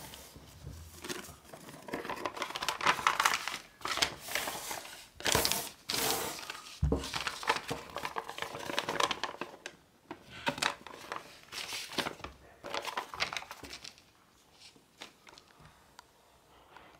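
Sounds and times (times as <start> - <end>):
paper rustling and crinkling: 0.0 - 15.6.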